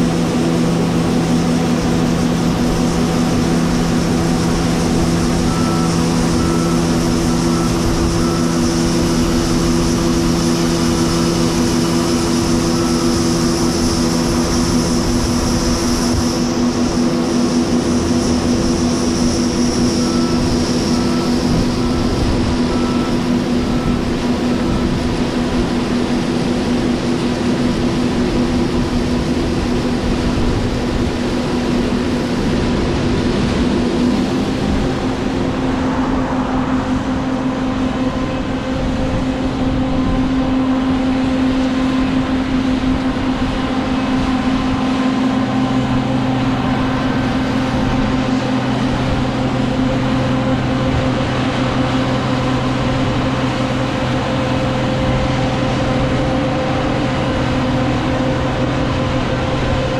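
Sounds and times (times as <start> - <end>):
lower hum: 0.0 - 59.9
machinery hum: 0.0 - 59.9.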